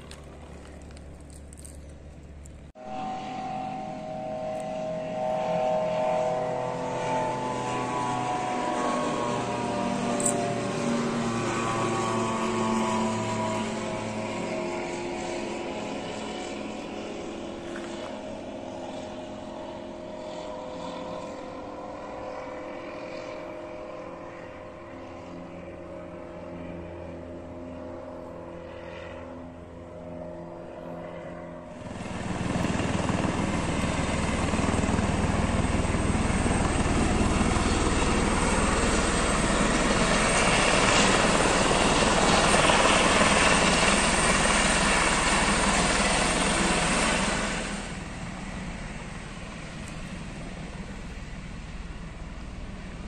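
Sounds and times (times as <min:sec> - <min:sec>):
helicopter rushing and humming: 0:00.0 - 0:53.0
propeller plane flying overhead: 0:00.0 - 0:53.0.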